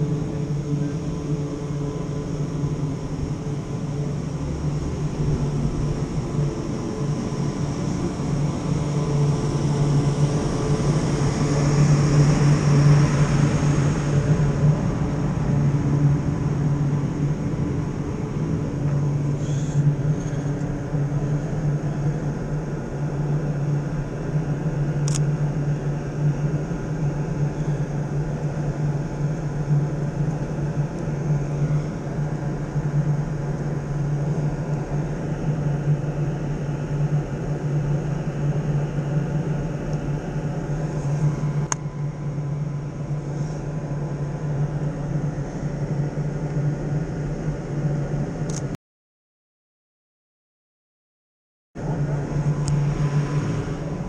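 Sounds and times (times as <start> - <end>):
low mechanical hum: 0.0 - 48.8, 51.8 - 54.0.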